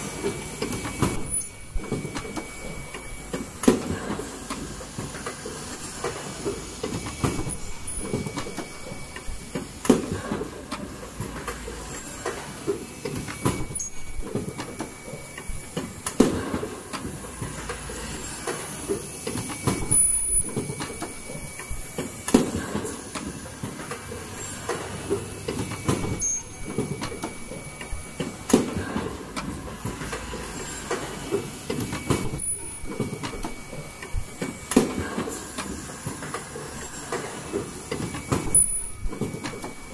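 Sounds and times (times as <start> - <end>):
machine conveyor clatter: 0.0 - 39.9
mechanical surge of machine cycling: 0.0 - 39.9.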